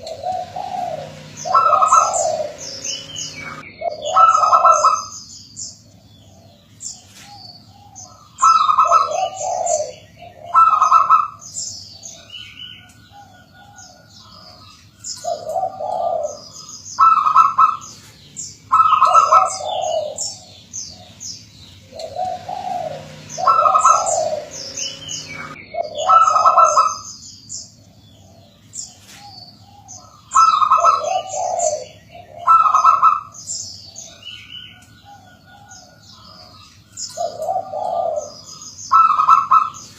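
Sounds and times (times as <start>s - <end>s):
dove cooing: 0.0s - 5.2s, 5.8s - 39.9s
small birds chirping: 0.0s - 39.9s.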